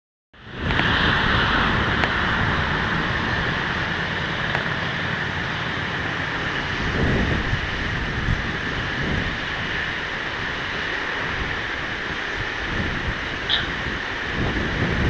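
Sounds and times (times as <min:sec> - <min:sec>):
ocean surf: 0:00.4 - 0:15.0
wind buffeting the microphone: 0:00.4 - 0:15.0.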